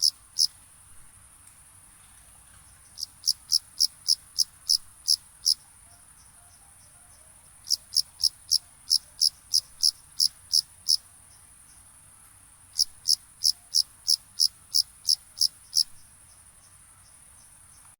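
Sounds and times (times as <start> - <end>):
high-pitched insect trill: 0.0 - 0.6, 2.9 - 11.9, 12.8 - 17.9
loud cricket chirping: 0.0 - 0.6, 2.7 - 17.9
faint crickets chirping: 0.0 - 17.9.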